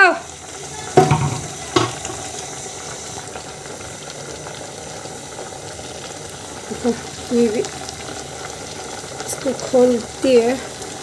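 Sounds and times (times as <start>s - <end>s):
water boiling: 0.0s - 11.0s.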